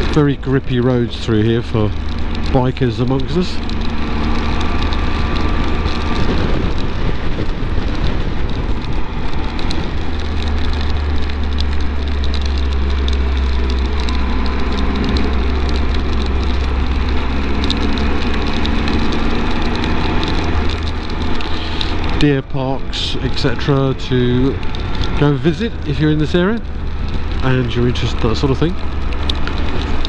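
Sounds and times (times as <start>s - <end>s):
motorcycle engine drone: 0.0s - 30.0s
raindrops hitting microphone: 0.0s - 30.0s
road noise: 0.0s - 30.0s
wind rush: 1.8s - 30.0s.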